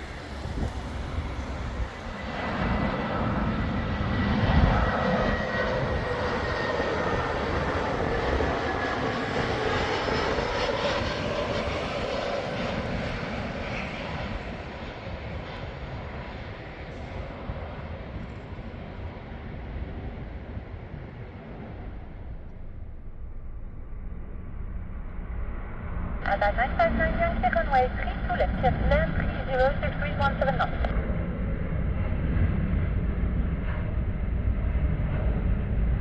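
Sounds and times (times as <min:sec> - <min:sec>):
jet airliner passing: 0:00.0 - 0:36.0
jet engine whine dropping in pitch: 0:00.0 - 0:36.0.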